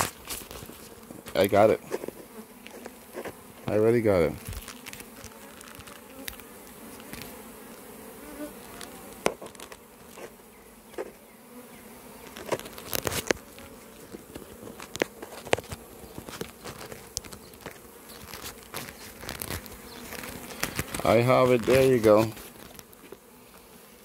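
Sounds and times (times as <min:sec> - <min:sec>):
bee swarm buzzing: 0:00.0 - 0:24.0.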